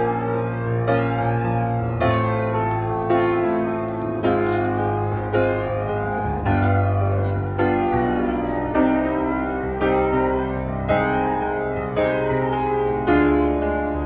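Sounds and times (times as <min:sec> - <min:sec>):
keyboard playing chords: 0:00.0 - 0:14.0.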